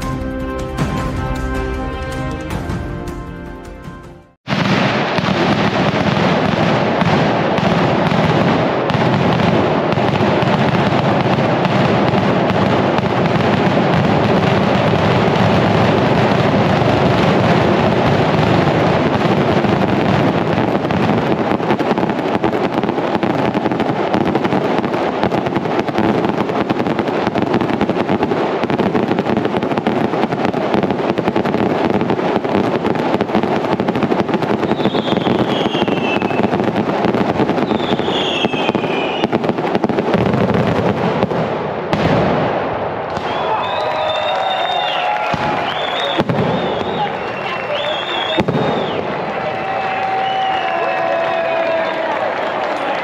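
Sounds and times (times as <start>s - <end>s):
firecrackers crackling and banging: 4.4s - 53.0s.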